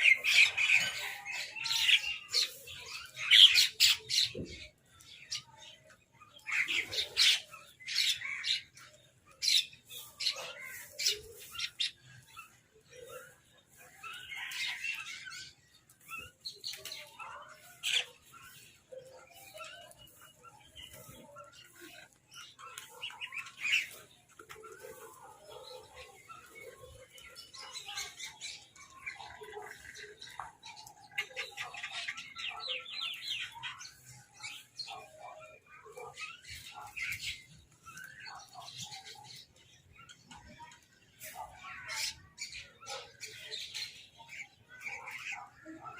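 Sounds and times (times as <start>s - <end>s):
birds chirping and calling: 0.0s - 45.9s.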